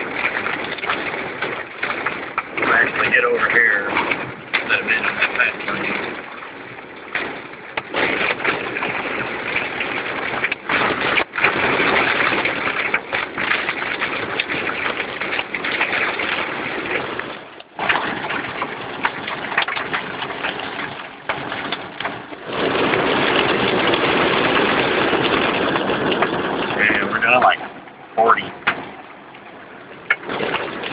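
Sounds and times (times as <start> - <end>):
rain on a moving car: 0.0 - 30.9
tyres on a wet road: 0.0 - 30.9.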